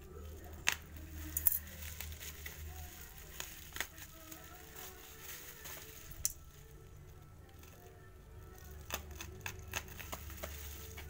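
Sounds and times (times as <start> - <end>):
bubble wrap crackling: 0.0 - 11.0
low steady hum: 0.0 - 11.0.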